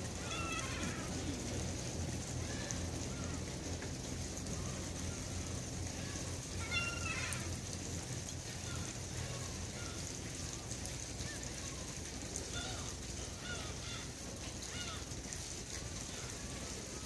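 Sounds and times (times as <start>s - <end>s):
background hiss and rumble: 0.0s - 17.0s
gulls calling: 0.0s - 17.0s.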